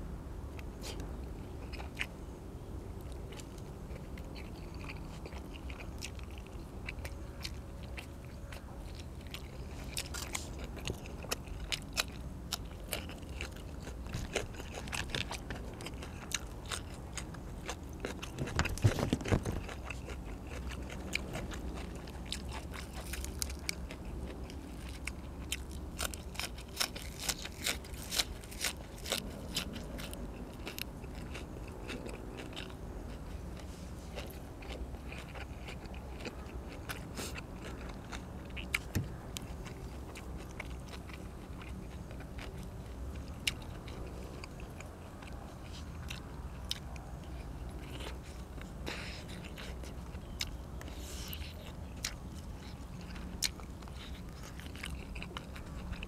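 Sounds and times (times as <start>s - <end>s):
person chewing crunchy food: 0.6s - 56.0s.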